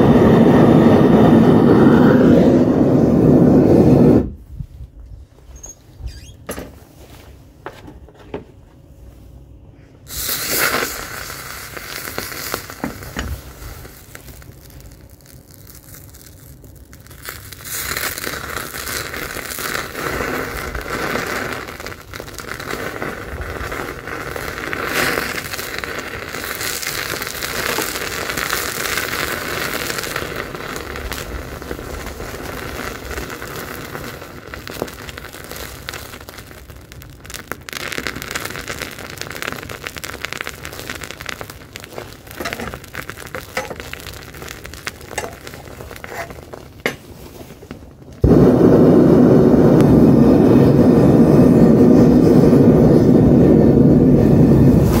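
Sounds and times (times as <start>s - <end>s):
molten metal crackling and spitting: 0.0s - 4.4s, 10.1s - 55.0s.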